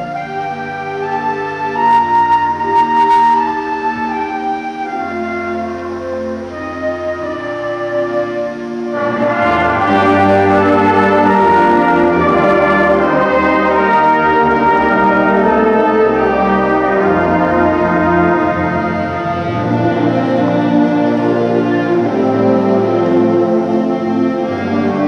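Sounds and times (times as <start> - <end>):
concert band playing: 0.0 - 25.0.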